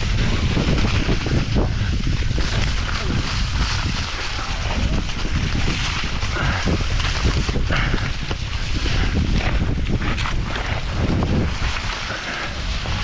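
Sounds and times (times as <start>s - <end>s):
bike rattling: 0.0s - 13.0s
tyres rumbling over rough ground: 0.0s - 13.0s
wind buffeting microphone: 0.0s - 13.0s.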